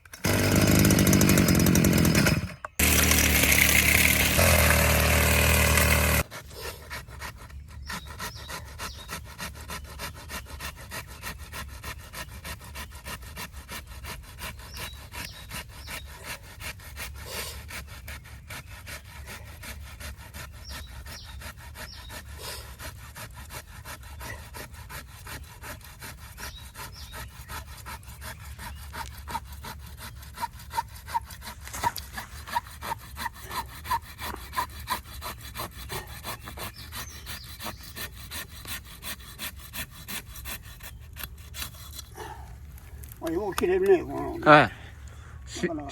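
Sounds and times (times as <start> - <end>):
hand saw cutting wood: 0.0 - 44.7.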